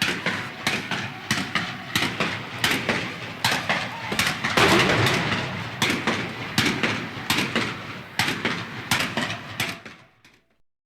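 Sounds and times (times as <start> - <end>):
noisy din of combat: 0.0 - 10.0
gunshots: 0.9 - 9.8.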